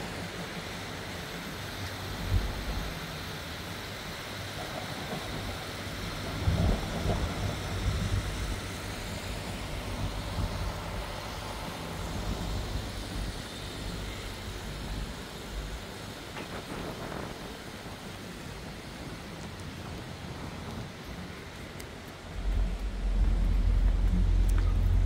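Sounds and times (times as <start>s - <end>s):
street ambience low rumble: 0.0s - 25.0s.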